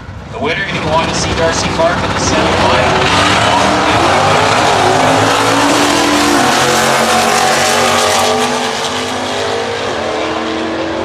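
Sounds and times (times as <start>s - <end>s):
drag car engines revving: 0.0s - 11.0s.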